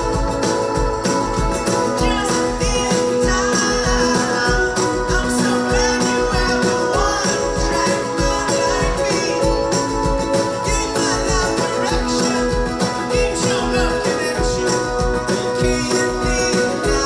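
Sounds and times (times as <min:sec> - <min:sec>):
pop-rock band playing live: 0:00.0 - 0:17.0
steady drum beat: 0:00.0 - 0:17.0.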